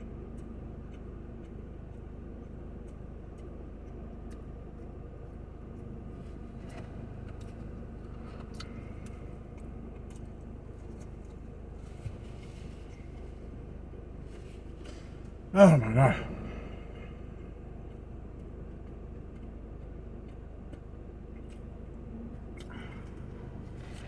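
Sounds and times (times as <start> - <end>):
eating clicks and smacks: 0.0 - 24.0
low background hum: 0.0 - 24.0.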